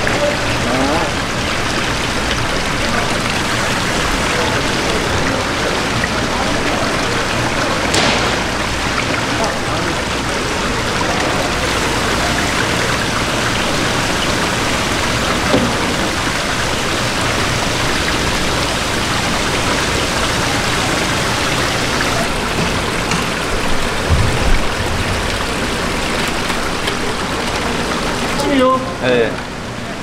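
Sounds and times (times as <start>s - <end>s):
water pouring into a tank: 0.0s - 30.0s.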